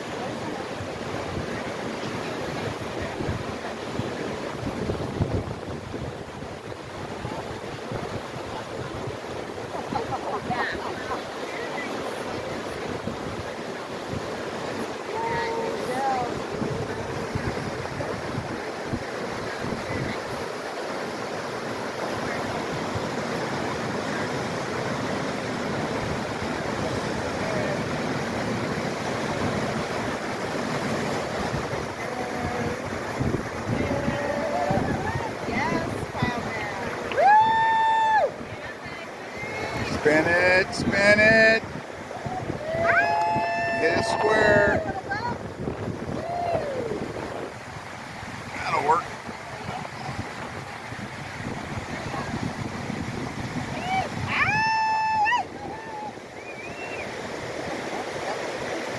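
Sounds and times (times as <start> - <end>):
wind gusting on microphone: 0.0 - 56.3
river rapids rushing: 0.0 - 58.9.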